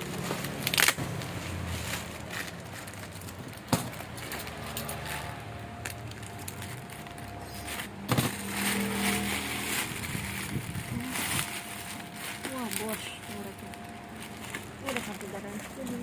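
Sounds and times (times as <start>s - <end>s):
low background hum: 0.0s - 16.0s
unboxing handling noise: 0.0s - 16.0s.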